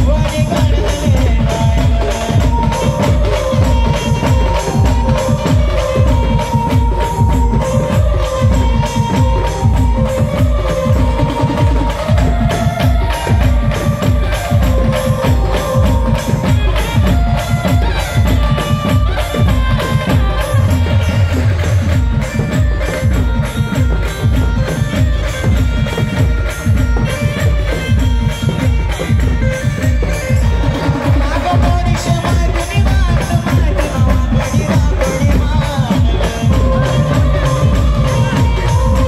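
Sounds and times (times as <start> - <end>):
steady drum and percussion beat: 0.0 - 39.0.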